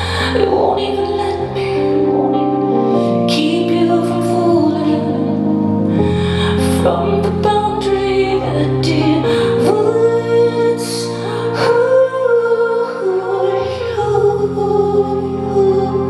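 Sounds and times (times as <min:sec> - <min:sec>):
electric keyboard chords: 0:00.0 - 0:16.0
woman singing: 0:00.0 - 0:16.0.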